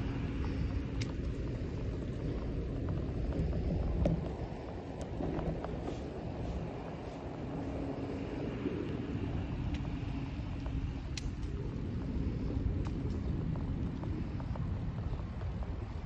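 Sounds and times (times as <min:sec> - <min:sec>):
bike ticks and rattles: 0:00.0 - 0:16.0
low road rumble: 0:00.0 - 0:16.0
wind buffeting microphone: 0:00.0 - 0:16.0.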